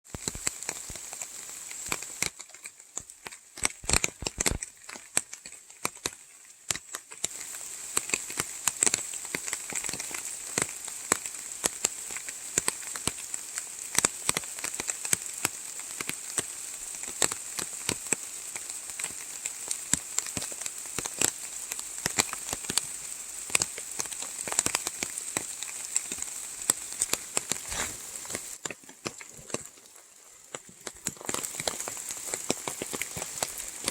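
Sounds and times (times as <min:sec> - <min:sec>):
raindrops hitting close by: 0:00.0 - 0:33.9
steady rainfall hiss: 0:00.1 - 0:33.9.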